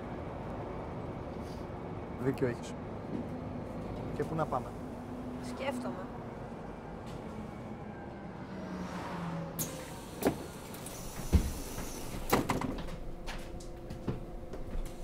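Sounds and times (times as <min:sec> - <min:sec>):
bus engine and road hum: 0:00.0 - 0:15.0.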